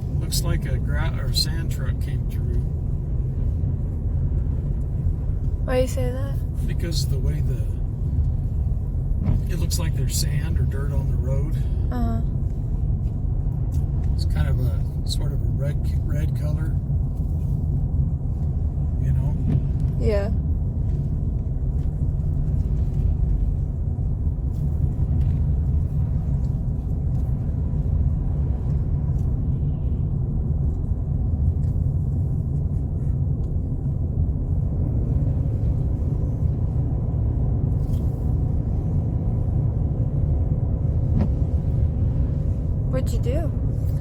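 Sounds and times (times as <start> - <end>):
car engine rumble: 0.0 - 44.0
tyres on slushy road: 0.0 - 44.0.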